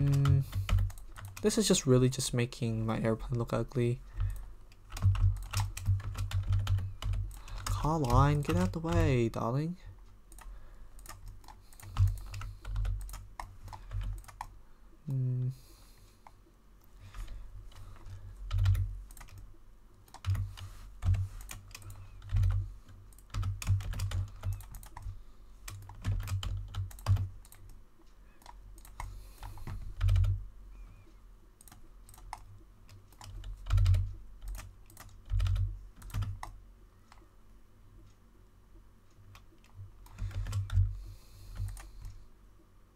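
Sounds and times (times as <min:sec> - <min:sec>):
keyboard typing: 0:00.0 - 0:01.7, 0:04.1 - 0:09.4, 0:10.3 - 0:14.6, 0:17.1 - 0:37.2, 0:39.1 - 0:42.2.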